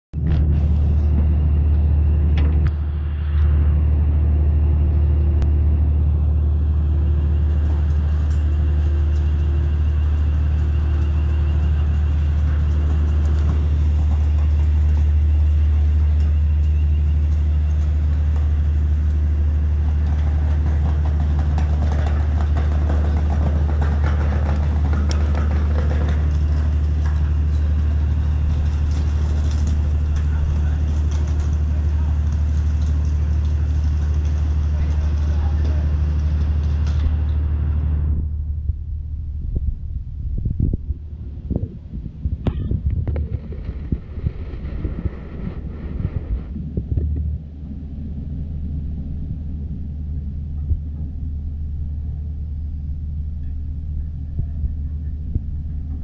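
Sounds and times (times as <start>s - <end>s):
ship engines rumbling: 0.1s - 56.0s
faint pulsing hum: 0.2s - 56.0s.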